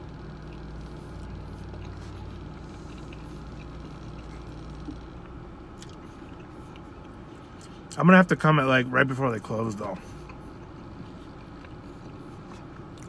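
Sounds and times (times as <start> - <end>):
chewing and mouth sounds: 0.0 - 8.0, 9.7 - 13.0.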